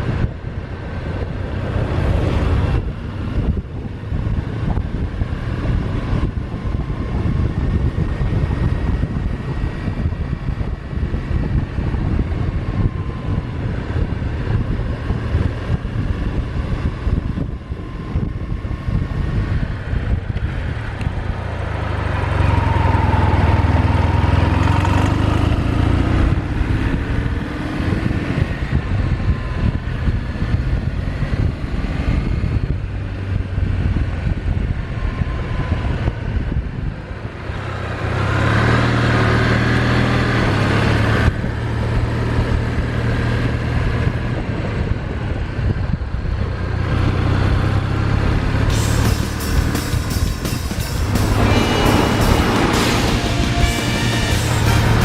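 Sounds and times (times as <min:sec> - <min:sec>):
motorcycle engine running: 0:00.0 - 0:38.1, 0:38.8 - 0:55.0
wind noise: 0:00.0 - 0:55.0.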